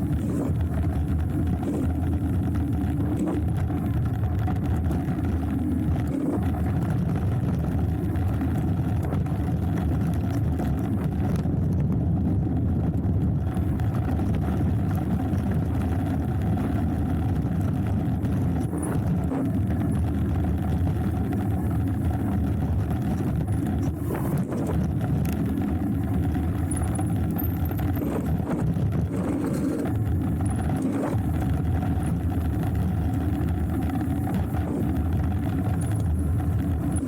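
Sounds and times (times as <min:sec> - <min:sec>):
mountain bike tyre rumble on dirt: 0:00.0 - 0:37.0.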